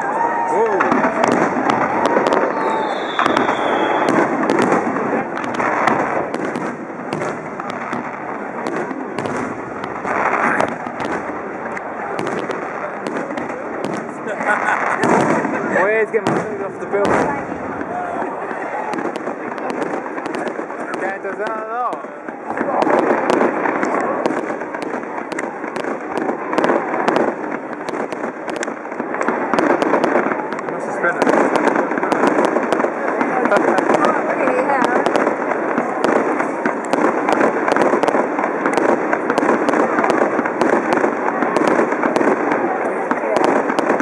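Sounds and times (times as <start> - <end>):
fireworks bursts and crackles: 0.0 - 44.0.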